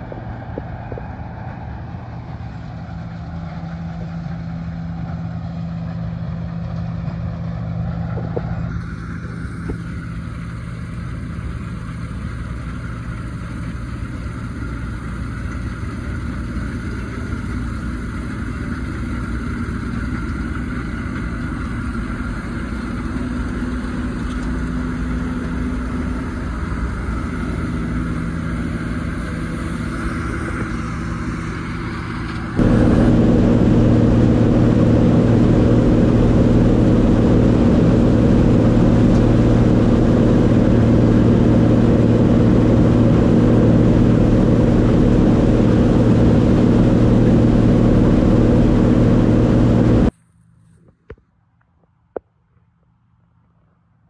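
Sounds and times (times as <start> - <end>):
combine harvester running: 0.0 - 50.1.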